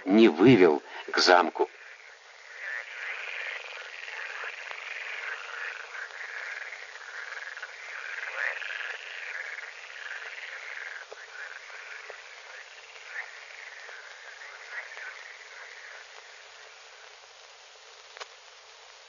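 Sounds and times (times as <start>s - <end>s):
frogs croaking: 0.0s - 19.0s.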